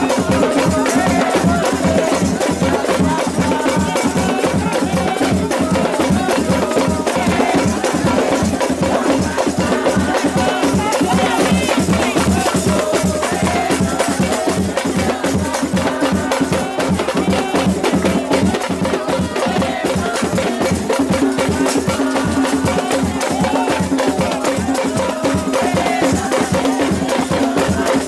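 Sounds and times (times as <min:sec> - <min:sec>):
crowd clapping along: 0:00.0 - 0:28.0
frame drums with jingles: 0:00.0 - 0:28.0
hand drum rhythm: 0:00.0 - 0:28.0.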